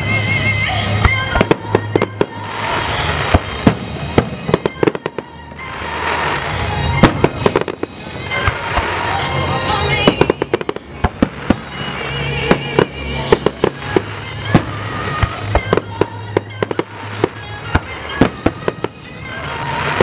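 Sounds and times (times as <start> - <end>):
fireworks bangs and crackling: 0.0 - 20.0
fireworks booms: 0.0 - 20.0
music playing: 0.0 - 20.0.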